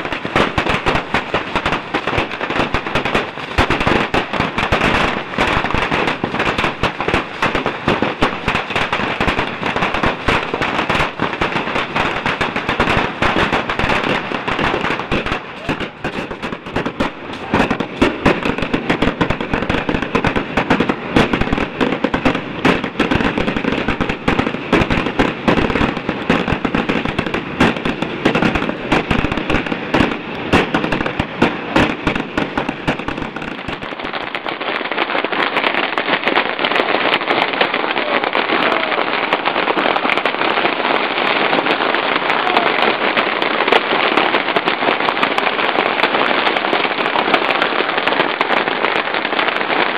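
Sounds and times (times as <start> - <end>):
rockets streaking: 0.0 - 43.7
firecrackers crackling: 0.0 - 49.9.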